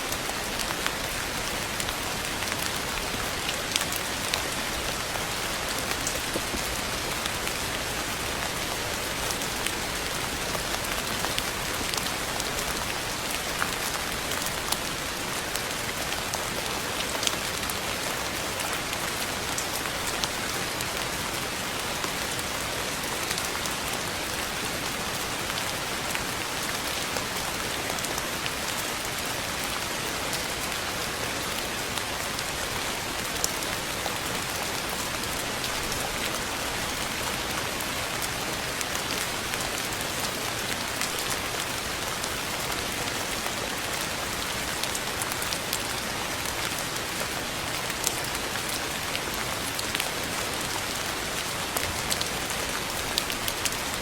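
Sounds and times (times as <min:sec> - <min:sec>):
rain on a hard surface: 0:00.0 - 0:54.0.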